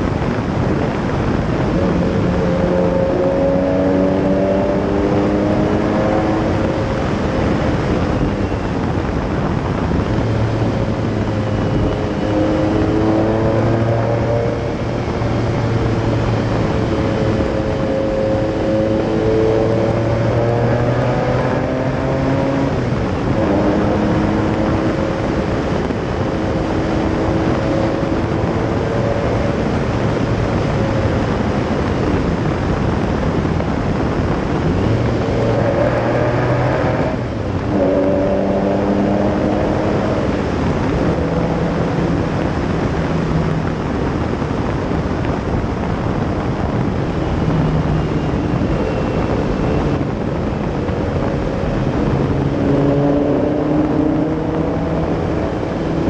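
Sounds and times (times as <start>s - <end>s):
car engine revving: 0.0s - 56.0s
wind and road rush: 0.0s - 56.0s.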